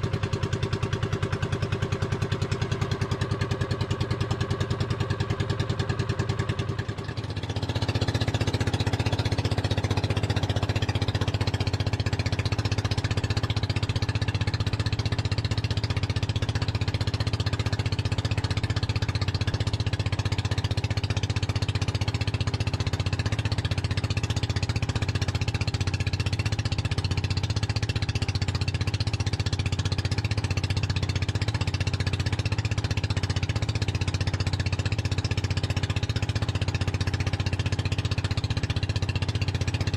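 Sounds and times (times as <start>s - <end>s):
boat engine puttering: 0.0s - 39.9s.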